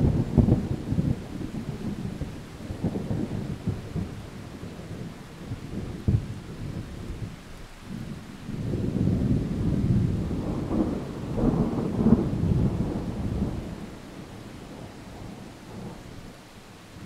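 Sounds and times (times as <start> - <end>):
distant thunder rolling: 0.0 - 16.4.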